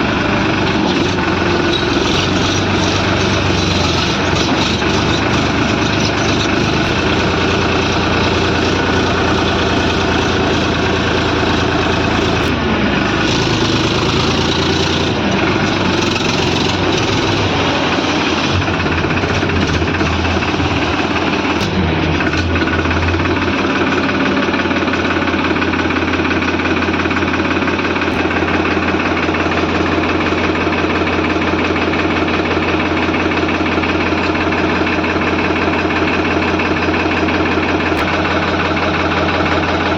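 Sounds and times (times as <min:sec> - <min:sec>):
diesel engine running loudly: 0:00.0 - 0:39.9.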